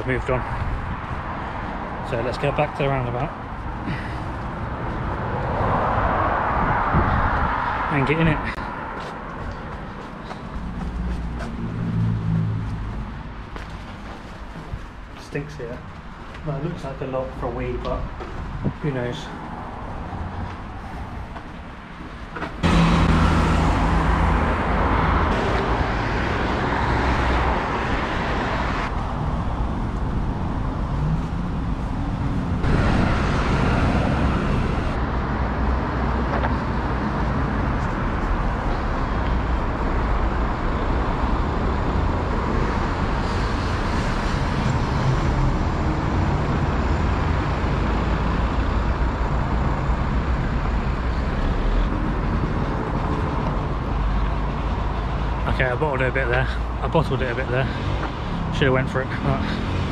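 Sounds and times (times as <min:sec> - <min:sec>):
heavy road traffic: 0:00.0 - 0:59.9.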